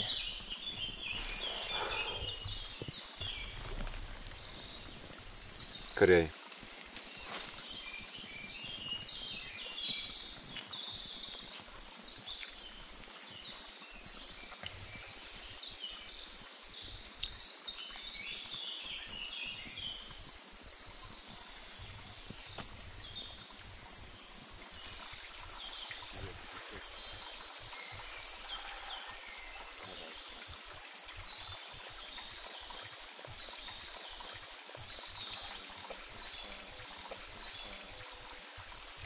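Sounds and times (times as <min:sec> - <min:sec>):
soft outdoor hiss: 0:00.0 - 0:39.0
songbirds singing: 0:00.0 - 0:39.0.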